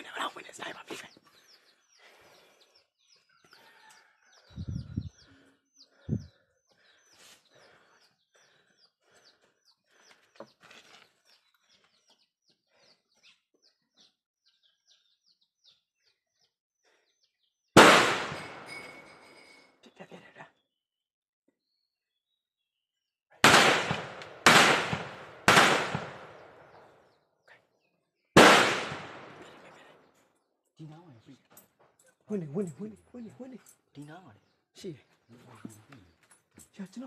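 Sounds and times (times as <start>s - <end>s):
small birds chirping: 0.0s - 17.8s, 18.4s - 22.9s, 26.2s - 28.4s, 29.2s - 37.0s.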